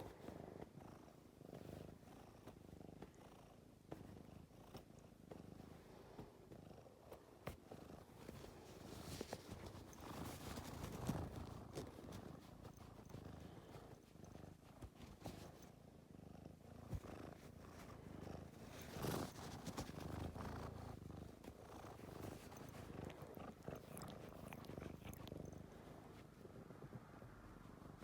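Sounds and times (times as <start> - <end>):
cat purring: 0.0 - 28.0
faint clicks and rustles: 0.0 - 28.0.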